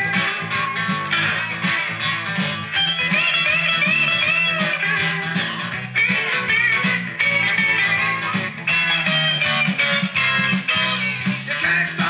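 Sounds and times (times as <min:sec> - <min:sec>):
band music with electric guitar: 0:00.0 - 0:12.0.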